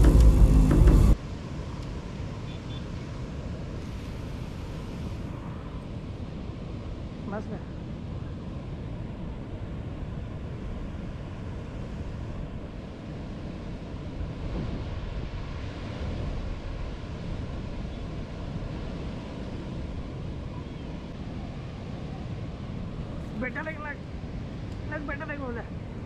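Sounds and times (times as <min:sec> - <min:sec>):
choppy river water: 0:00.0 - 0:26.0
wind buffeting microphone: 0:03.2 - 0:26.0.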